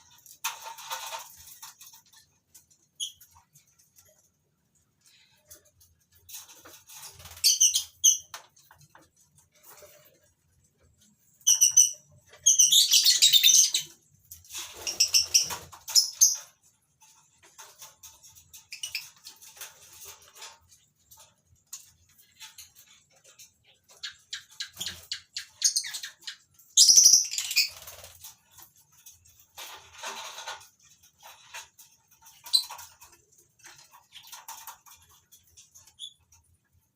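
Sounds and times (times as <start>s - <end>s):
small clicks and rustling: 0.0s - 11.5s, 13.8s - 26.6s, 27.3s - 36.9s.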